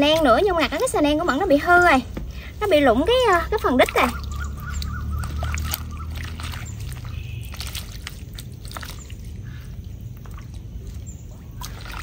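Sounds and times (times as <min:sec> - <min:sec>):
hands squelching through mud: 0:00.0 - 0:12.0
water splashing and dripping: 0:00.0 - 0:12.0.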